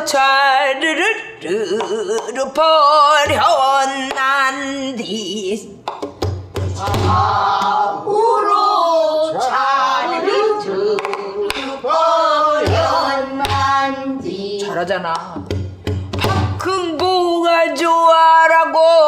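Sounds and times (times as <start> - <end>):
woman singing with vibrato: 0.0 - 5.9, 6.8 - 15.6, 16.2 - 19.0.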